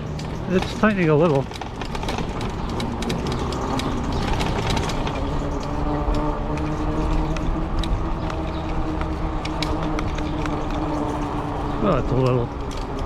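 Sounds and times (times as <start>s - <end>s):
clicks and rattles: 0.0s - 13.0s
e-bike motor whine: 0.0s - 13.0s.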